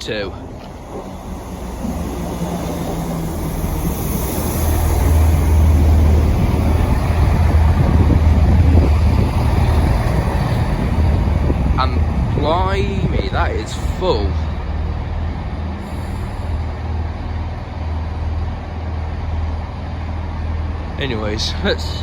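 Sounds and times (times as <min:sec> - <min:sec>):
diesel train engine drone: 0:00.0 - 0:22.0.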